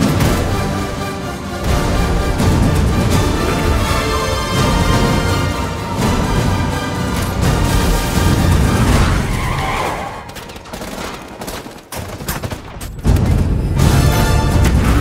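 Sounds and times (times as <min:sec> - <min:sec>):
dramatic trailer music: 0:00.0 - 0:11.0, 0:13.0 - 0:15.0
rapid gunfire: 0:00.0 - 0:15.0.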